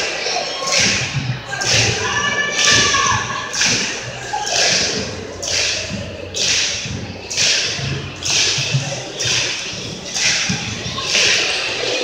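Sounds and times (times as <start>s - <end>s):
low thumps: 0.7s - 12.0s.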